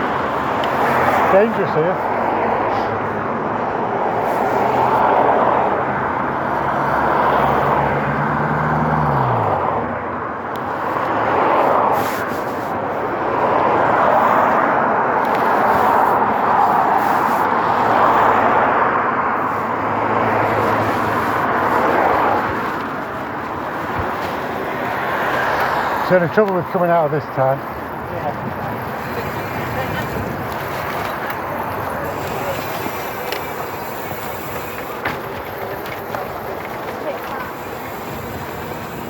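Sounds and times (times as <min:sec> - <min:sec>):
car engine passing: 0:00.0 - 0:39.0
road traffic passing: 0:00.0 - 0:39.0.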